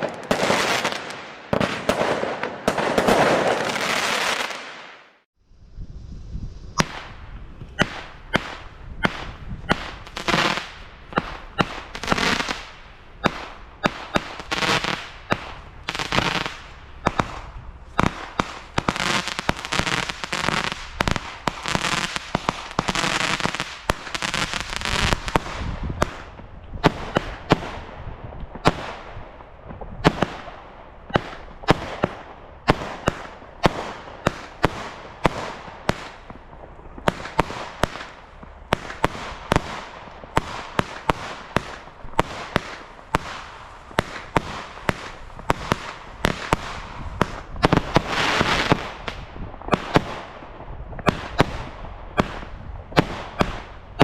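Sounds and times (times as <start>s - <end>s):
fireworks popping and banging: 0.0s - 5.0s, 6.8s - 54.0s
fireworks crackling: 0.0s - 54.0s.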